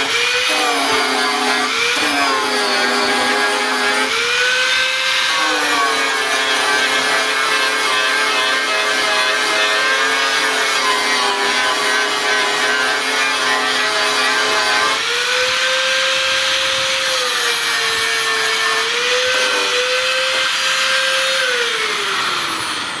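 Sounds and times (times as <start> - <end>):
electric grinder grinding metal: 0.0 - 23.0.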